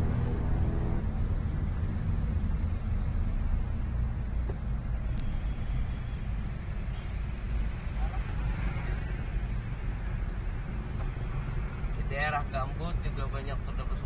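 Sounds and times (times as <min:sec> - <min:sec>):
car driving low rumble: 0:00.0 - 0:14.0.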